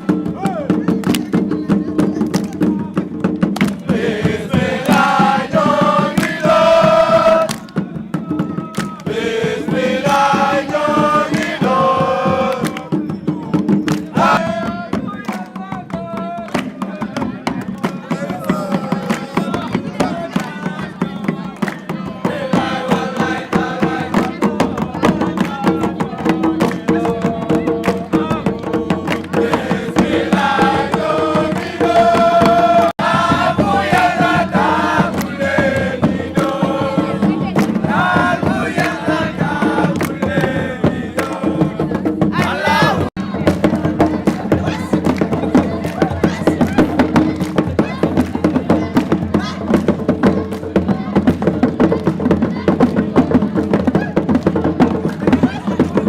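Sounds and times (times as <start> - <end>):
rhythmic percussion: 0.0 - 56.0
voices chanting together: 0.0 - 56.0.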